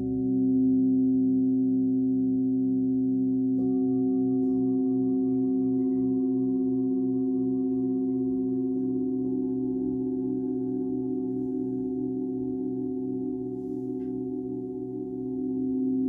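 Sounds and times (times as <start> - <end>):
crystal singing bowls ringing: 0.0 - 16.0.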